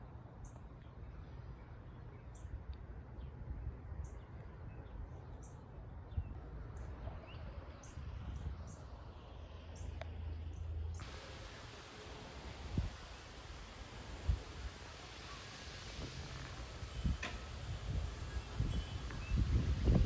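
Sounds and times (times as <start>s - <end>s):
light wind rumble: 0.0s - 20.0s.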